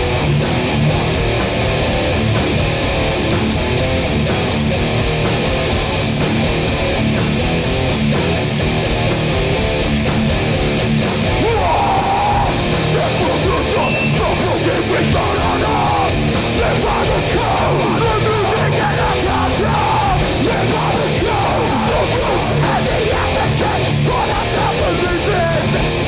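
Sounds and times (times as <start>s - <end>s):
punk band playing live: 0.0s - 26.0s.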